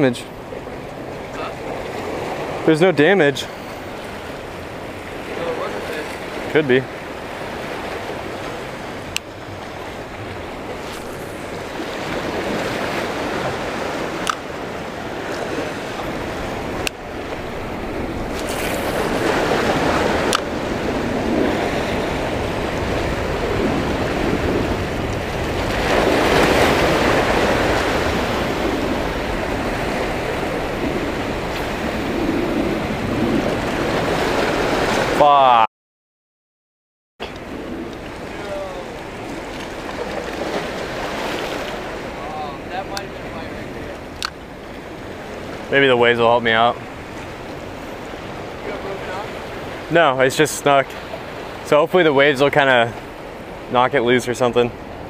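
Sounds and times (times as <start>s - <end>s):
waves breaking over rocks: 0.0s - 35.4s, 37.2s - 55.0s.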